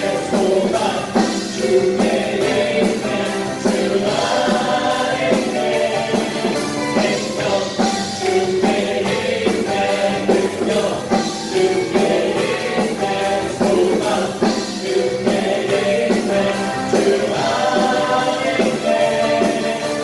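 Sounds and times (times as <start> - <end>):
group singing praise song with band: 0.0 - 20.0.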